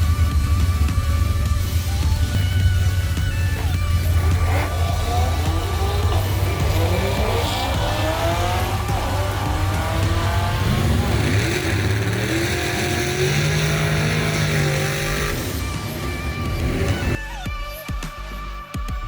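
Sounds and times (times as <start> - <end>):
car engine accelerating: 0.0 - 17.2.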